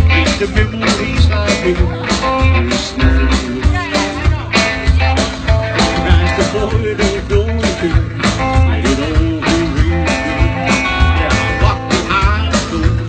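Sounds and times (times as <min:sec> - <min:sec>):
acoustic guitar: 0:00.0 - 0:13.0
drums: 0:00.0 - 0:13.0
upright bass: 0:00.0 - 0:13.0.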